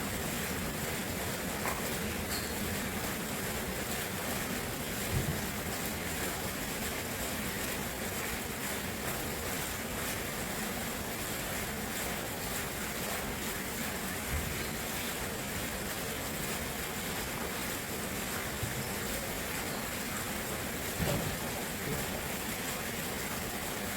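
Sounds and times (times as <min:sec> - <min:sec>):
running water rushing: 0:00.0 - 0:23.9.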